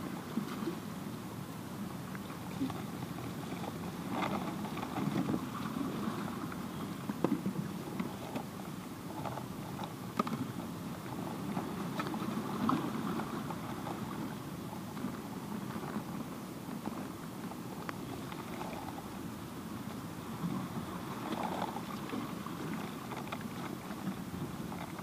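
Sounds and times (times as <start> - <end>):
heavy surf: 0.0 - 25.0
wind: 0.0 - 25.0.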